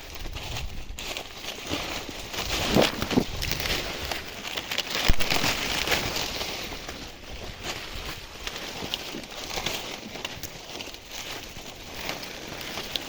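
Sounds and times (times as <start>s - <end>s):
dry leaves rustling and crackling: 0.0s - 13.0s.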